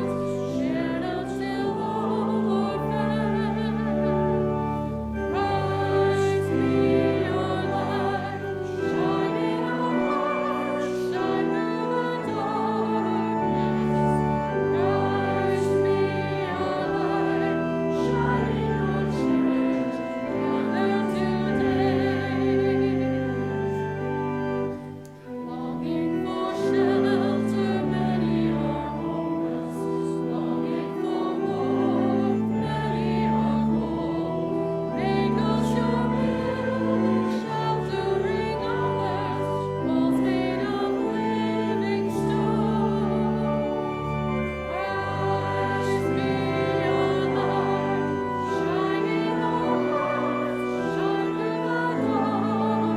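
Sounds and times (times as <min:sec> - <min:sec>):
held chordal accompaniment: 0:00.0 - 0:52.9
voices singing a hymn: 0:00.0 - 0:52.9.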